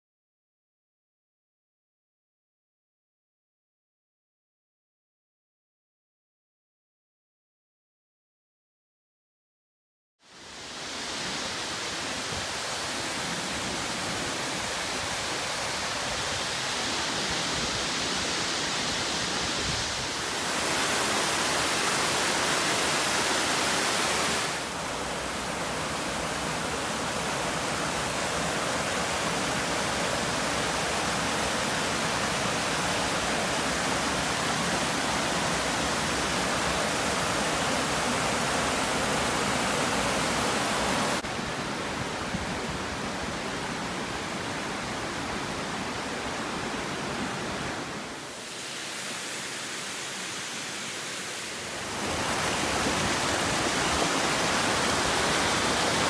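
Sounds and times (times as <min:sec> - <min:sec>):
waterfall rushing: 0:10.3 - 0:56.0.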